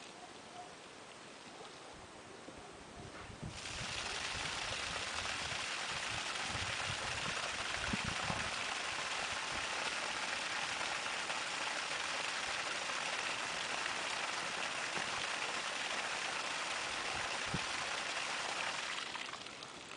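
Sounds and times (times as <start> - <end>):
water rushing out of pipe: 3.4 - 19.9.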